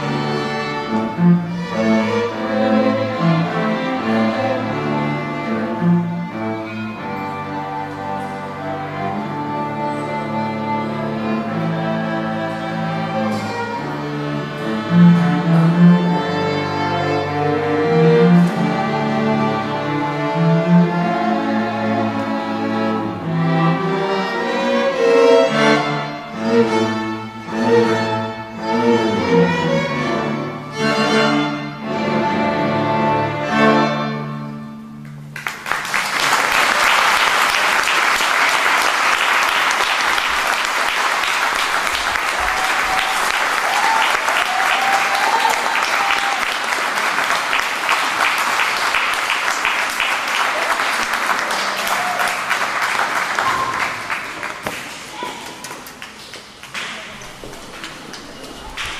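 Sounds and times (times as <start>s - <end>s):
string orchestra playing chords: 0.0s - 53.4s.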